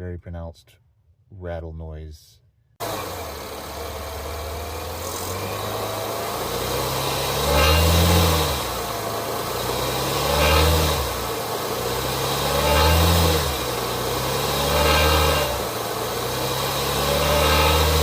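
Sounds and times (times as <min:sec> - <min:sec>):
car engine idling and revving: 0:02.8 - 0:18.0.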